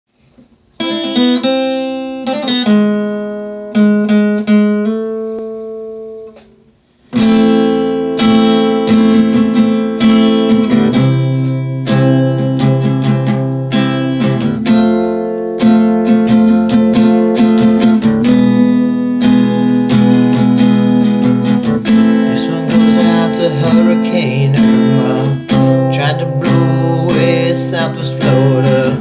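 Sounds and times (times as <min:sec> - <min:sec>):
guitar chords strumming: 0:00.2 - 0:29.0.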